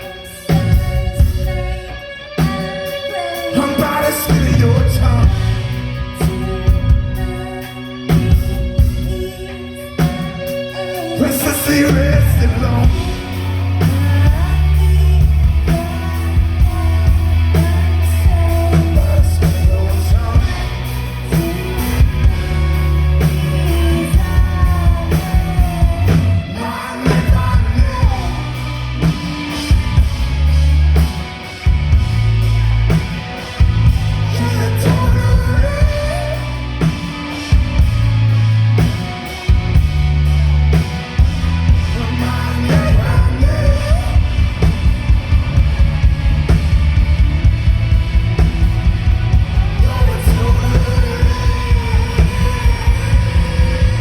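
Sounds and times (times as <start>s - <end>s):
drum kit: 0.0s - 1.8s, 2.4s - 54.0s
person singing: 0.0s - 30.1s, 32.9s - 37.9s, 41.8s - 45.2s, 48.9s - 54.0s
bass guitar: 0.0s - 54.0s
electric guitars: 0.0s - 54.0s.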